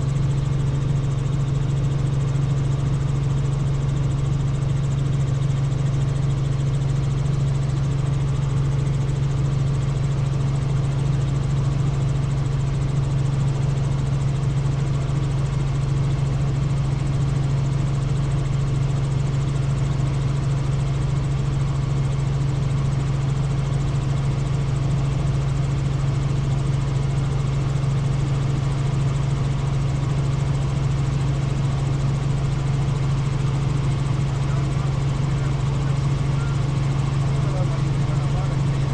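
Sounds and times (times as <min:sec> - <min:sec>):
helicopter in flight: 0:00.0 - 0:38.9.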